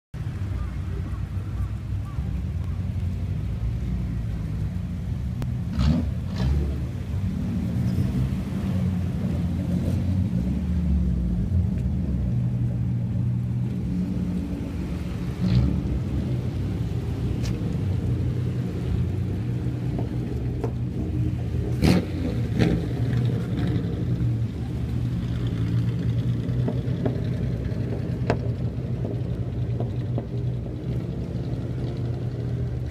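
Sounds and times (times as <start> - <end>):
car exhaust rumble: 0.2 - 32.9.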